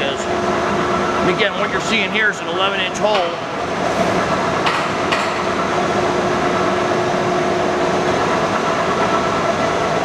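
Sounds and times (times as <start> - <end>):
machinery running: 0.0 - 10.0.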